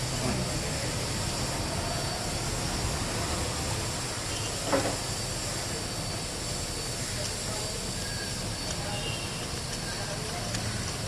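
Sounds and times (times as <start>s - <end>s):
low mechanical rumble with hiss: 0.0s - 11.0s.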